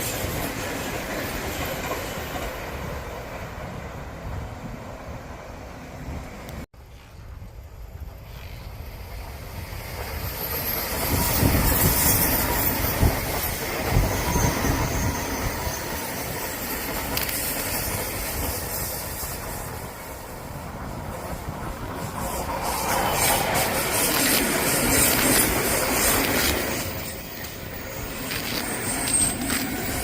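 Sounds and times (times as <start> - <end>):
train wheel clacks: 0.0 - 3.8, 9.7 - 30.0
electric train passing: 0.0 - 30.0.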